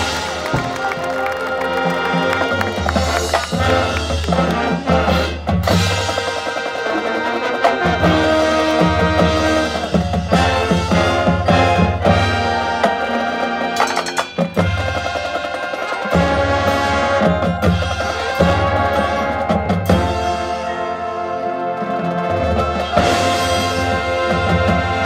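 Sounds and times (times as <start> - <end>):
drums and percussion: 0.0 - 25.0
marching band brass: 0.0 - 25.0.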